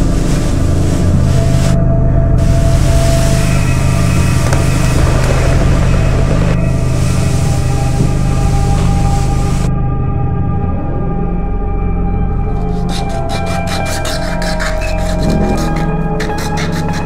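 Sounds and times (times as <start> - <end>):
droning film soundtrack: 0.0 - 17.0.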